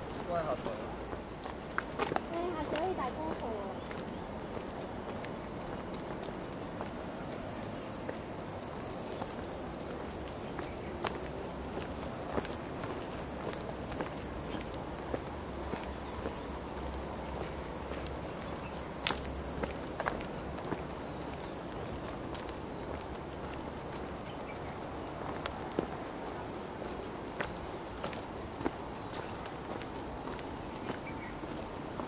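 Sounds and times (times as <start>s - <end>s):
footsteps on dirt path: 0.0s - 32.0s
insects droning: 0.0s - 32.0s.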